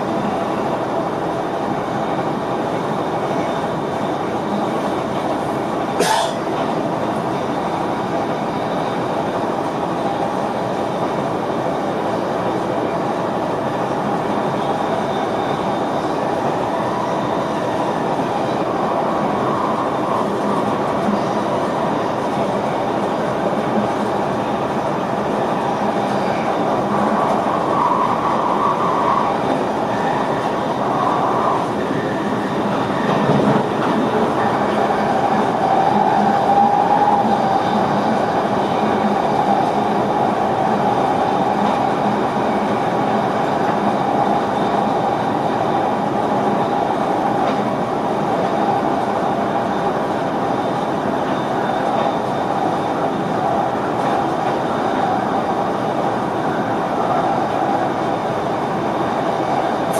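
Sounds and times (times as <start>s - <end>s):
train rumble in cab: 0.0s - 59.9s.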